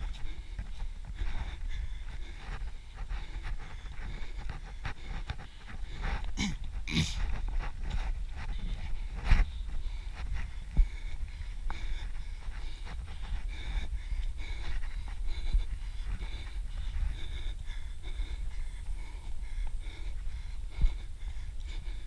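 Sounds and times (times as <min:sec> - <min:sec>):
low microphone rumble: 0:00.0 - 0:22.0
person panting: 0:00.0 - 0:22.0.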